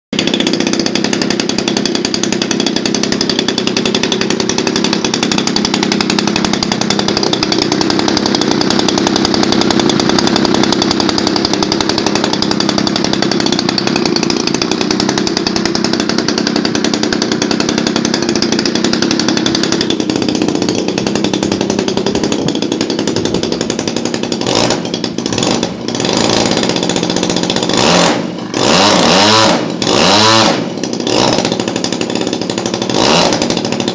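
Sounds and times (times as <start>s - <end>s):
model airplane engine running: 0.2s - 33.9s.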